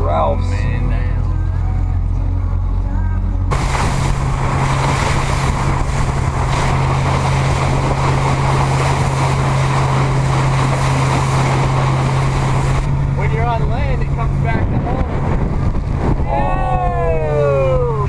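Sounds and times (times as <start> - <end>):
motorboat engine humming: 0.0 - 18.0
rushing wind and water: 0.0 - 18.0.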